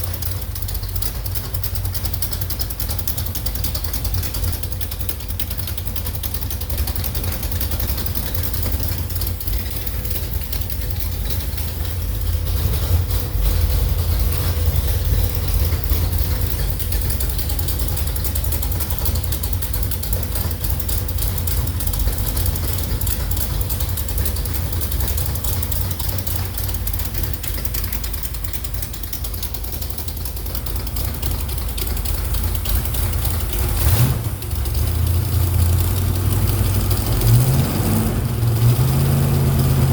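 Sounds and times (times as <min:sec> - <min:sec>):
engine running with low throb: 0:00.0 - 0:39.9.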